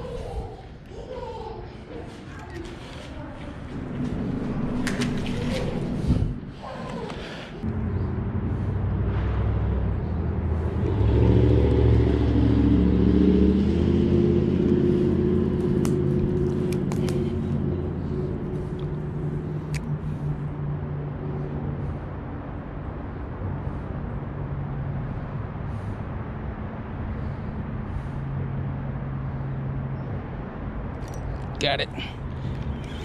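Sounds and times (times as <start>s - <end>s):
vehicle engine passing: 2.7s - 33.0s.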